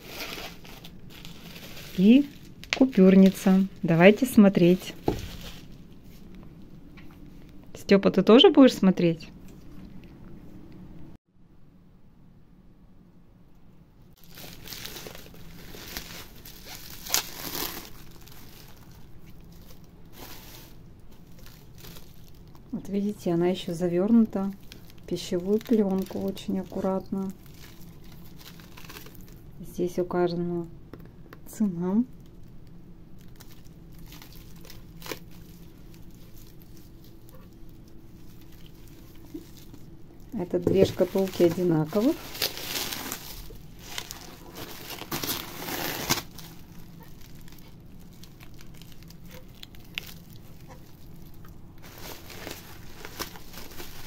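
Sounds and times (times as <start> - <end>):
bubble wrap crinkling: 0.0 - 7.6, 14.2 - 29.6, 32.0 - 54.0.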